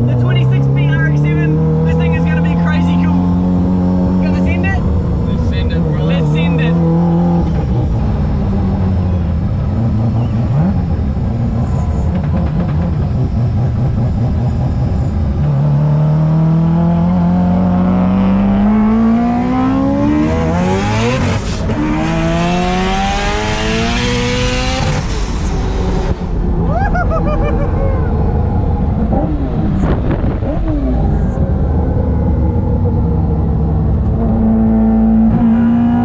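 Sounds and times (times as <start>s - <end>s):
rotary engine accelerating: 0.0s - 36.0s.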